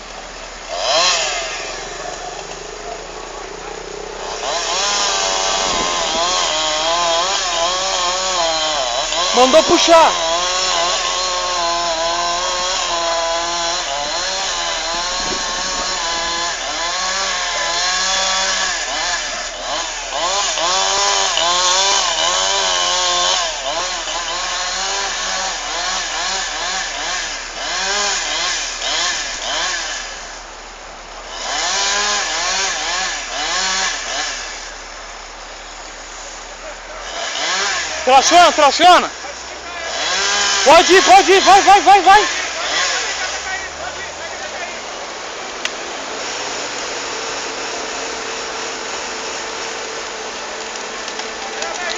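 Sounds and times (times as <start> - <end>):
chainsaw cutting tree trunk: 0.0 - 51.9.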